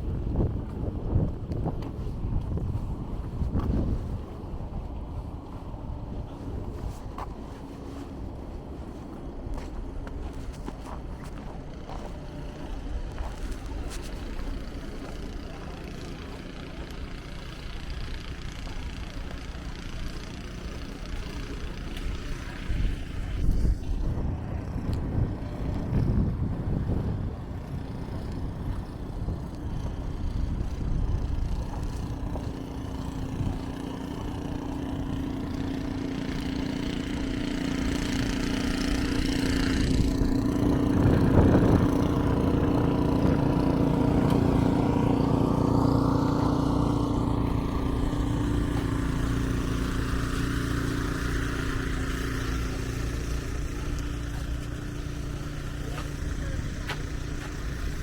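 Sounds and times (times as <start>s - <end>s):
traffic engine hum: 0.0s - 58.0s.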